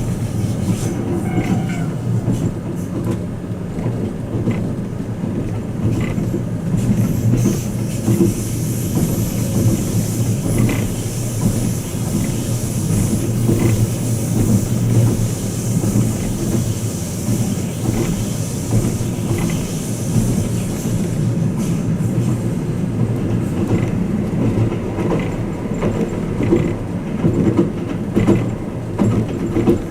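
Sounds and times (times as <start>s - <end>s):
train cabin rumble: 0.0s - 29.9s
wheels clicking over rail joints: 0.0s - 29.9s.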